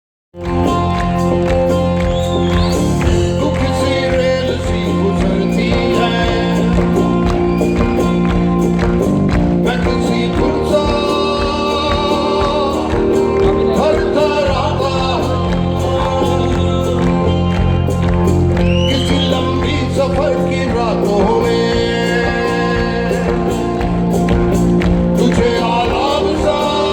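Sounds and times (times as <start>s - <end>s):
regular drum beat: 0.4s - 26.9s
rock band playing live: 0.4s - 26.9s
man singing: 2.4s - 8.4s, 9.3s - 26.9s.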